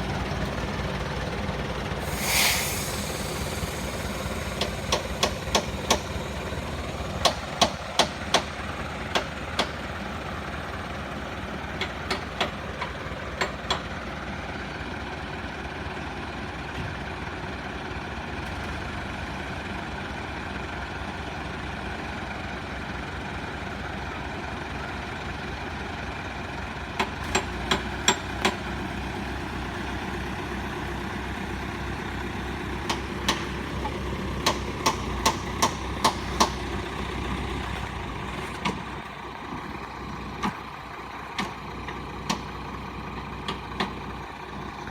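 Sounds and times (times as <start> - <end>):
heavy truck engine running: 0.0 - 44.9.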